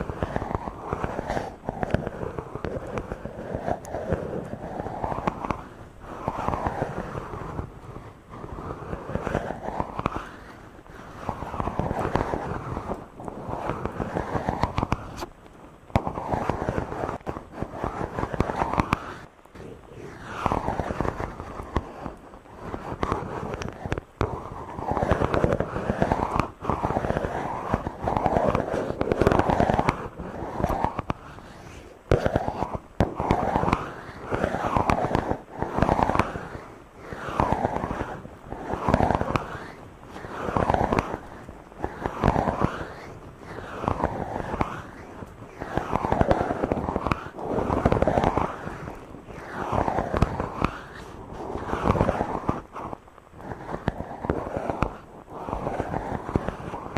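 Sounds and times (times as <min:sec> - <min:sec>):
rubbing on microphone: 0:00.0 - 0:56.9.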